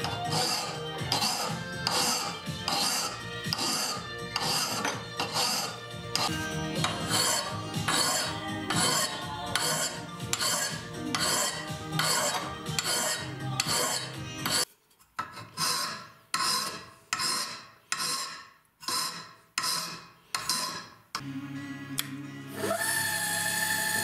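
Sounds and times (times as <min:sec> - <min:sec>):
hand file rasping on metal: 0:00.0 - 0:21.0.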